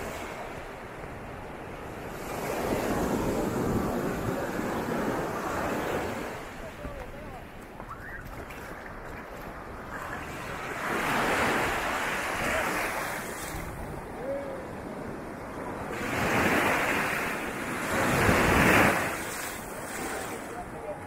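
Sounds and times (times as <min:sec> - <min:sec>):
small waves breaking in surf: 0:00.0 - 0:21.0.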